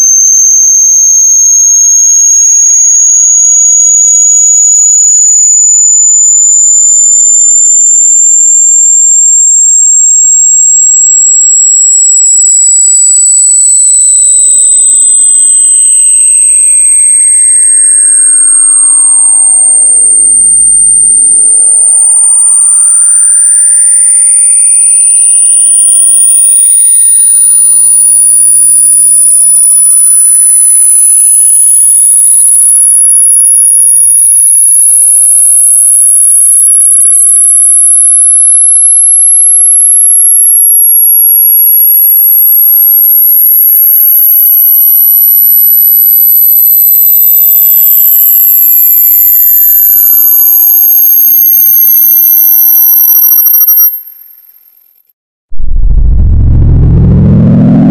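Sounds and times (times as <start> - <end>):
high-pitched rising test tone: 2.5 - 54.8, 55.5 - 57.9.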